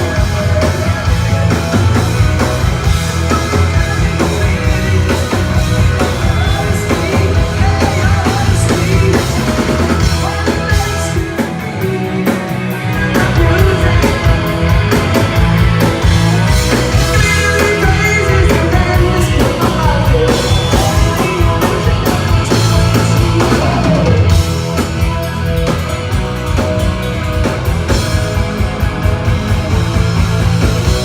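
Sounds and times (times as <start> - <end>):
rock band playing loudly: 0.0 - 31.0.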